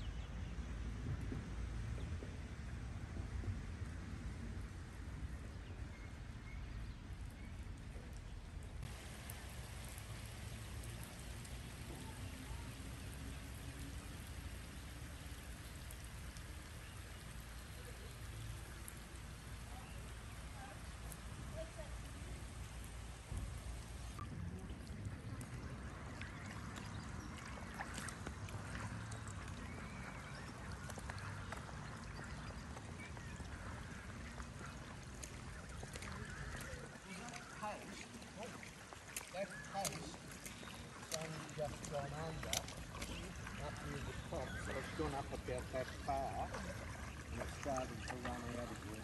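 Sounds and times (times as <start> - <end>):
light rain falling on ground: 0.0 - 49.0.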